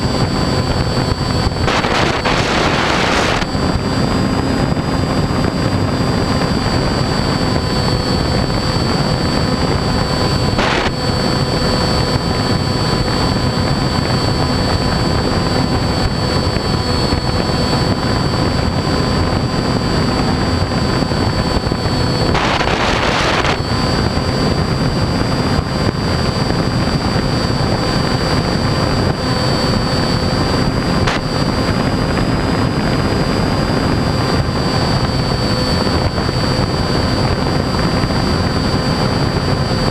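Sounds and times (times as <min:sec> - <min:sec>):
model airplane motor whine: 0:00.0 - 0:39.9
rushing air: 0:00.0 - 0:39.9.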